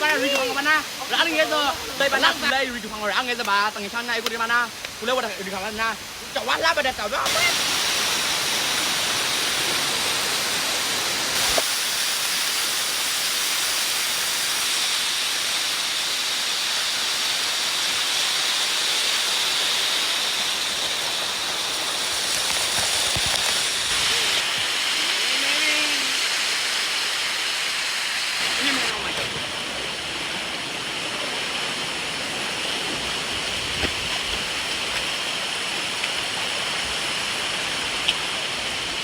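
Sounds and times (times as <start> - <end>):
waterfall rushing hiss: 0.0 - 39.0.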